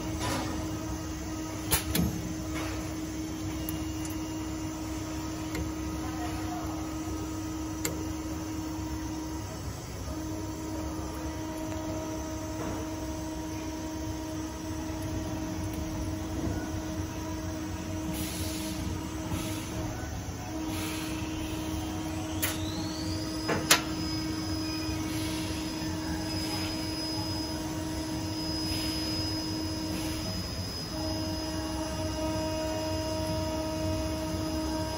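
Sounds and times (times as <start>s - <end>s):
machine electrical hum: 0.0s - 34.9s.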